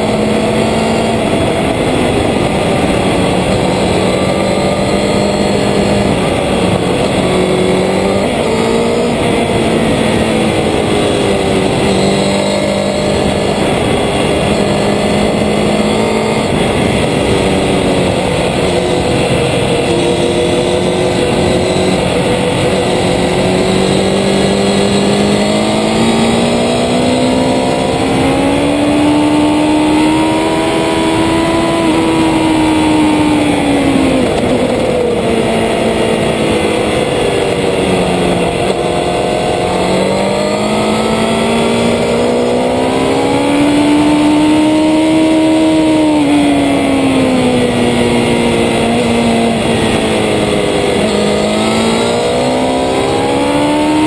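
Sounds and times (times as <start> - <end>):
motorcycle engine at high revs: 0.0 - 54.0
rush of noise: 0.0 - 54.0.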